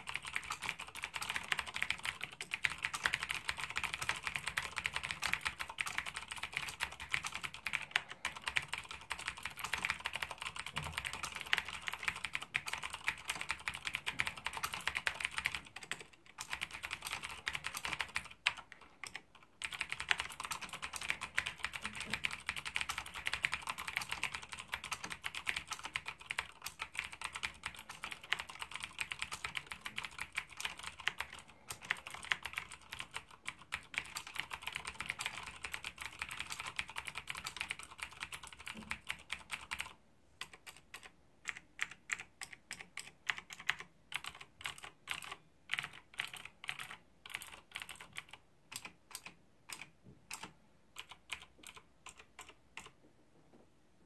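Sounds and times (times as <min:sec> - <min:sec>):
clicky keyboard typing: 0:00.0 - 0:53.0.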